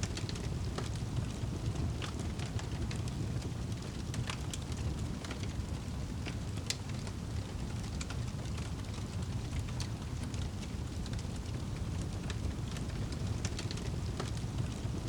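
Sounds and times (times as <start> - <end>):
low rumble of burning fire: 0.0 - 15.0
wood fire crackling: 0.0 - 15.0.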